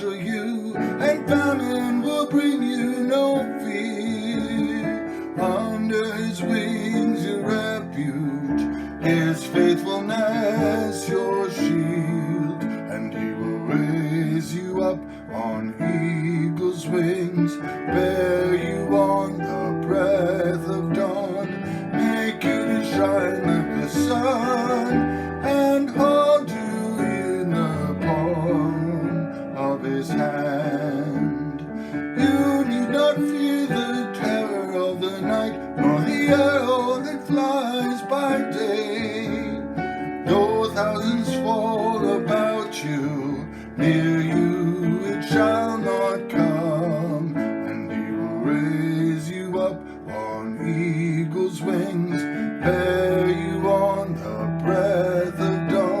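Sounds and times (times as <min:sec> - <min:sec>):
strummed acoustic guitar hymn: 0:00.0 - 0:56.0.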